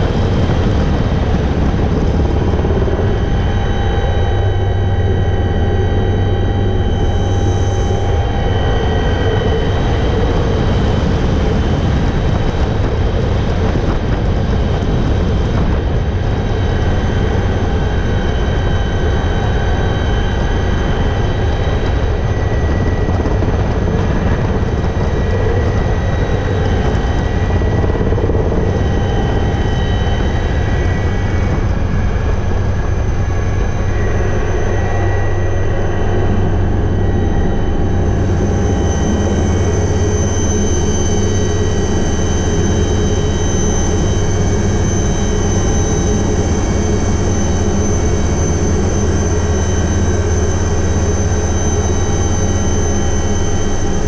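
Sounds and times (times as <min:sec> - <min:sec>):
helicopter rotor drone: 0:00.0 - 0:54.0
turbine whine: 0:00.0 - 0:54.0.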